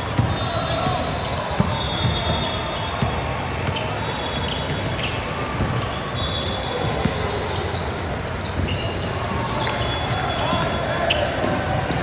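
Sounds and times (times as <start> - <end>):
crowd noise: 0.0 - 12.0
shoe squeaks: 0.4 - 12.0.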